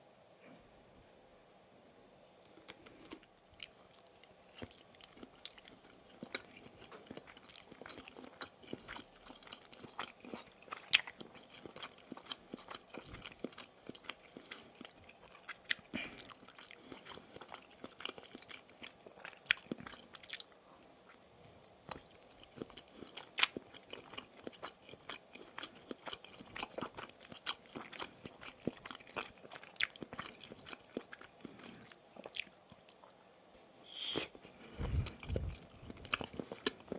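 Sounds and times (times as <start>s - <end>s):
biting and chewing sausage: 2.6s - 21.2s, 21.8s - 33.2s, 34.5s - 36.9s.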